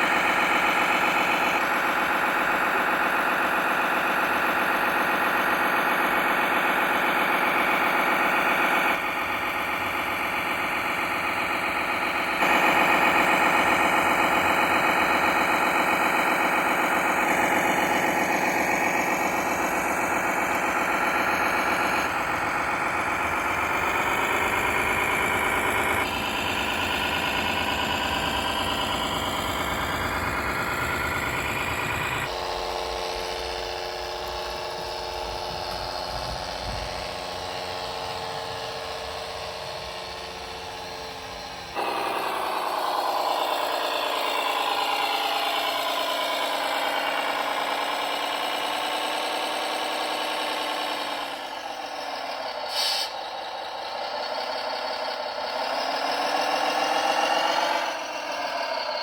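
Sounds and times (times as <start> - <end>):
model engine idling and revving: 0.0 - 59.0.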